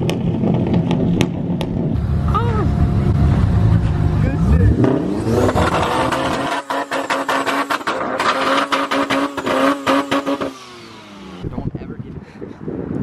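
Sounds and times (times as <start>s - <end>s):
car engine humming: 0.0s - 11.7s
exhaust crackles: 0.0s - 11.8s.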